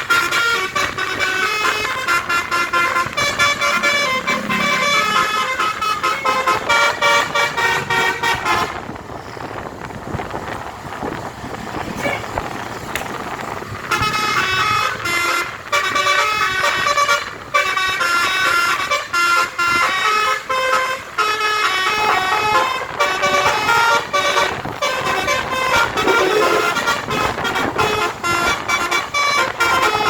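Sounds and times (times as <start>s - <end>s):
musical air horn tune: 0.0s - 8.8s, 13.8s - 30.0s
road and engine noise: 0.0s - 30.0s.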